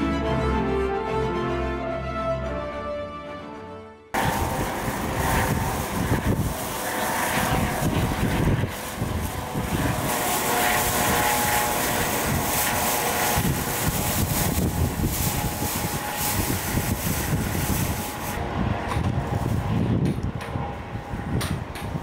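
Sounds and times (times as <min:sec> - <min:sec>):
helicopter whine: 0:00.0 - 0:22.0
helicopter rotor chop: 0:04.2 - 0:22.0.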